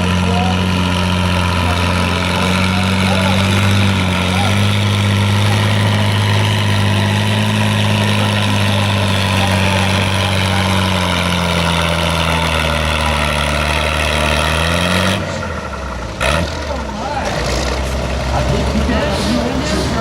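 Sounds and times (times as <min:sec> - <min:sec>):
tractor engine deep drone: 0:00.0 - 0:20.0.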